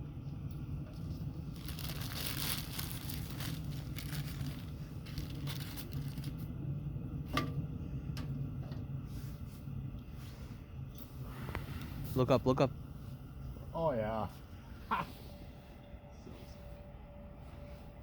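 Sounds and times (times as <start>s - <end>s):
wood fire crackling: 0.0s - 14.6s
steady low hum: 0.0s - 18.0s.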